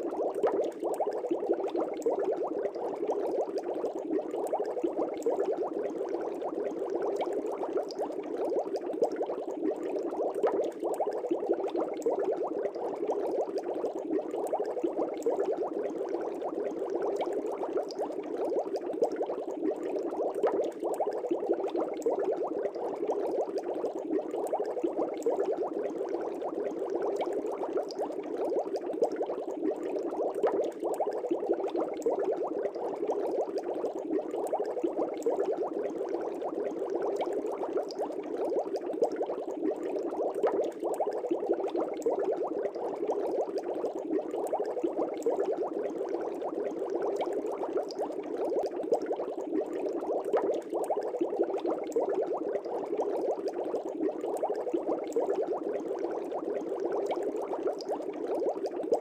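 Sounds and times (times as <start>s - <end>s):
aquarium air bubbling: 0.0s - 59.0s.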